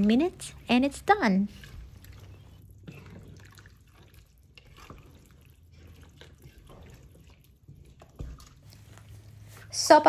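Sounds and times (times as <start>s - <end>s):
soup sloshing while stirred: 0.0s - 9.9s.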